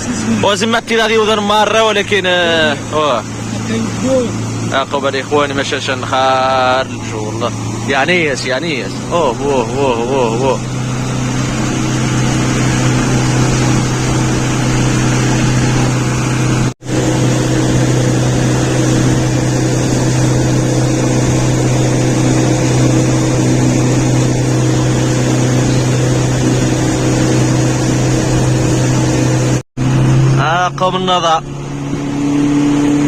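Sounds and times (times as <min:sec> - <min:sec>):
rushing wind: 0:00.0 - 0:30.4
motorboat engine running: 0:00.0 - 0:33.0
water noise: 0:00.0 - 0:33.0.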